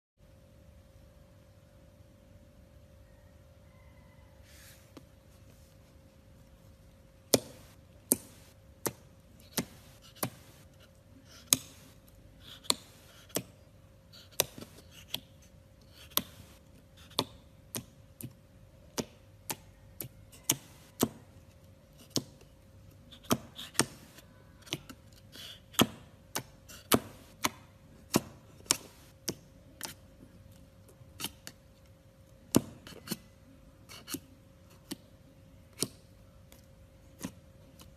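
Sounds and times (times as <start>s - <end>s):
faint steady hum: 0.2s - 37.9s.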